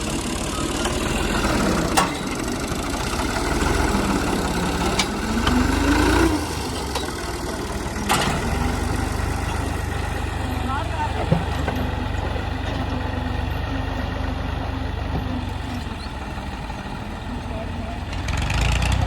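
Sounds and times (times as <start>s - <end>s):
old tractor engine running: 0.0s - 19.0s.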